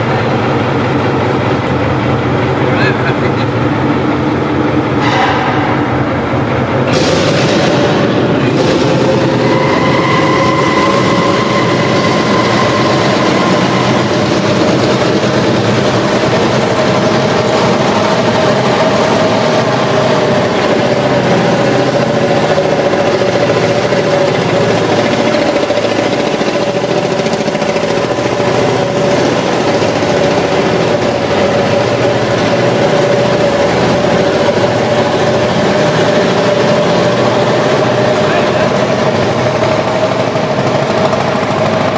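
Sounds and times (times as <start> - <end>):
steady whine: 0.0 - 41.9
tractor engine running: 0.0 - 41.9.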